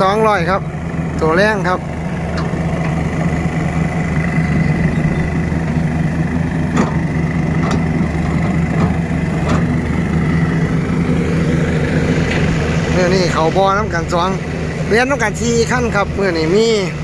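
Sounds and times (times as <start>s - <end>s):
diesel engines running: 0.0s - 17.0s
steady high whine: 0.0s - 17.0s.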